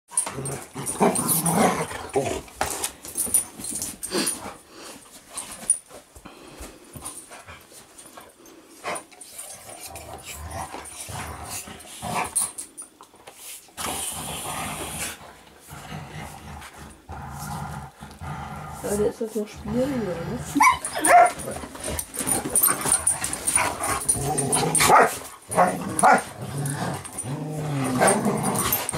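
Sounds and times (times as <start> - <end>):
dogs growling: 0.1 - 4.6, 8.8 - 12.8, 13.8 - 28.9.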